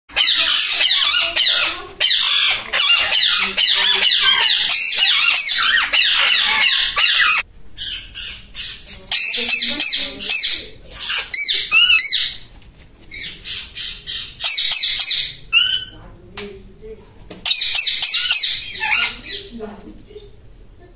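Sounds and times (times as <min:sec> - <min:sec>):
parakeets screeching: 0:00.1 - 0:12.5, 0:13.1 - 0:16.0, 0:17.5 - 0:19.6.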